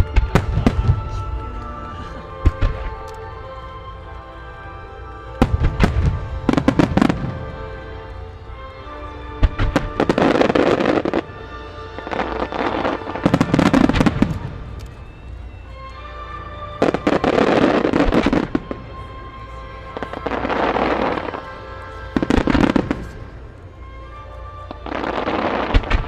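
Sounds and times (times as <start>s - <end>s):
fireworks bursting and crackling: 0.0s - 3.7s, 5.3s - 8.3s, 9.4s - 11.3s, 11.9s - 16.1s, 16.7s - 23.9s, 24.7s - 26.0s
music playing: 0.0s - 26.0s.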